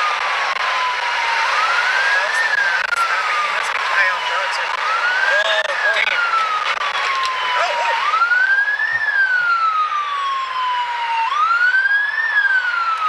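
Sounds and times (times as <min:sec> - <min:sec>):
emergency vehicle siren wailing: 0:00.0 - 0:13.0
traffic noise: 0:00.0 - 0:13.0.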